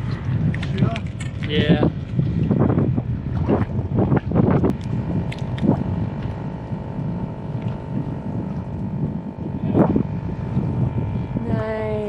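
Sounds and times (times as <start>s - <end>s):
faint steady hum: 0.0s - 12.0s
wind buffeting microphone: 0.0s - 12.0s.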